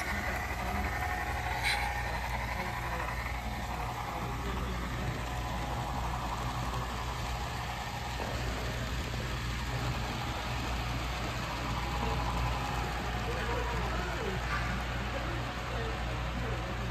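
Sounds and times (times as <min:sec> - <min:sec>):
model locomotive diesel rumble: 0:00.0 - 0:16.9.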